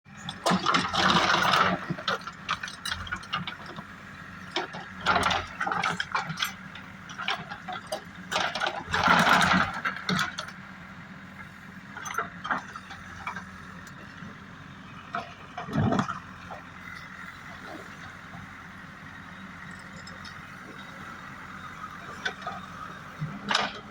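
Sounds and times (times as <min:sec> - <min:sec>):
diesel engine running: 0:00.1 - 0:23.9
engine rattle: 0:00.1 - 0:23.9.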